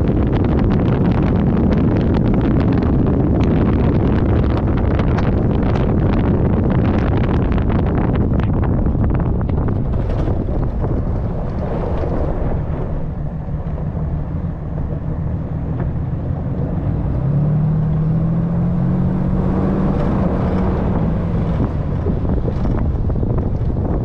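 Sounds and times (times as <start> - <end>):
truck engine rumble: 0.0 - 24.0
wind buffeting microphone: 0.0 - 24.0.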